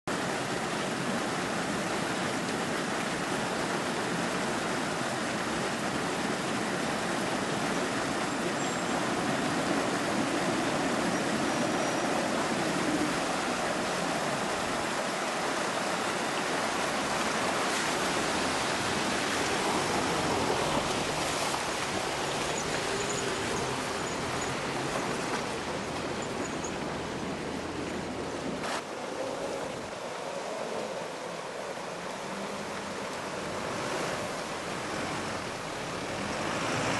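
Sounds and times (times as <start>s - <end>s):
creek water rushing and splashing: 0.0s - 36.9s.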